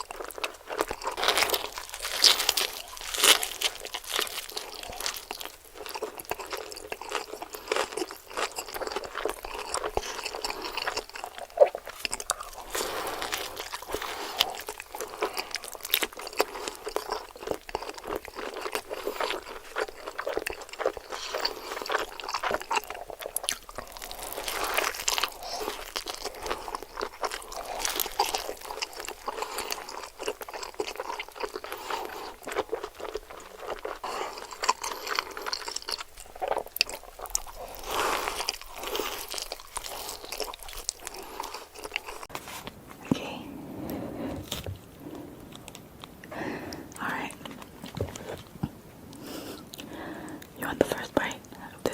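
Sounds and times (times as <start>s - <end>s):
crunching bites: 0.0s - 42.3s
wet chewing: 0.0s - 42.4s, 43.8s - 51.0s.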